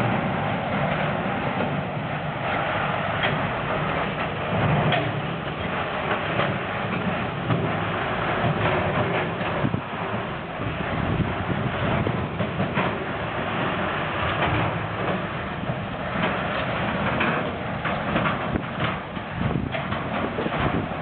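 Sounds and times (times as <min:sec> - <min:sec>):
chassis clattering and rattling: 0:00.0 - 0:21.0
truck engine running: 0:00.0 - 0:21.0.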